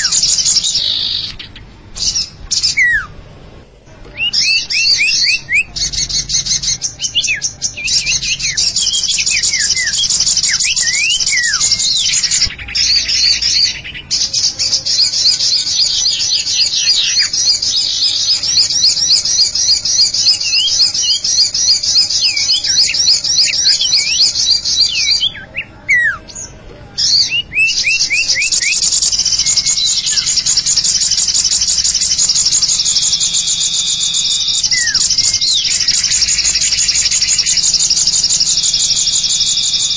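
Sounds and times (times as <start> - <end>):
falling whistled bird notes: 0.0 - 3.1, 4.1 - 39.9
bird chattering trills: 0.0 - 39.9.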